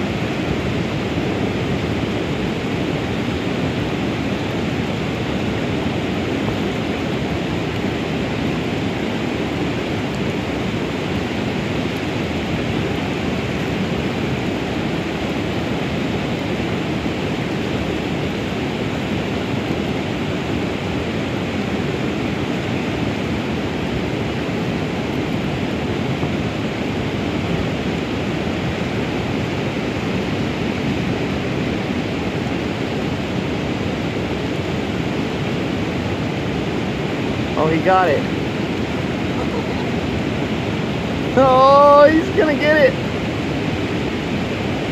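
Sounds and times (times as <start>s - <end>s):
river rushing over riffles: 0.0s - 44.9s.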